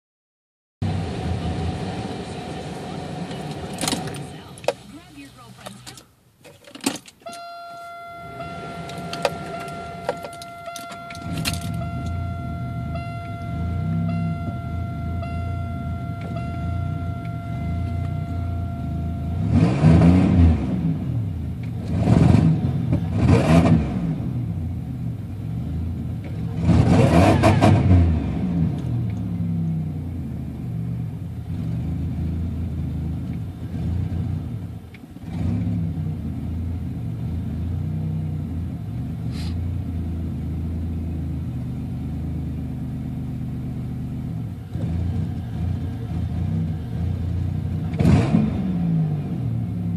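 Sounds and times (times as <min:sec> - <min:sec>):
car engine idling and revving: 0:00.8 - 0:49.9.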